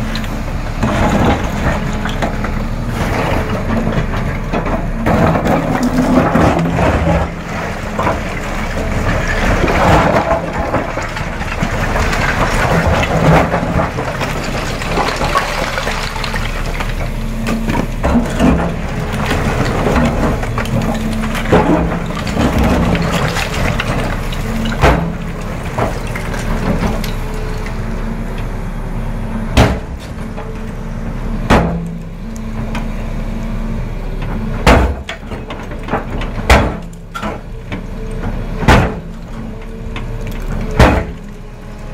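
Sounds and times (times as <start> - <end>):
excavator engine and hydraulics: 0.0 - 41.9.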